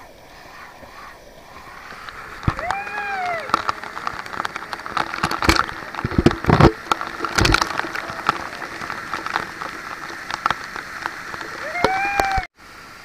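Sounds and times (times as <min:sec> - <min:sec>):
waterfall rushing: 0:00.0 - 0:13.0
water hitting camera body: 0:01.6 - 0:12.5.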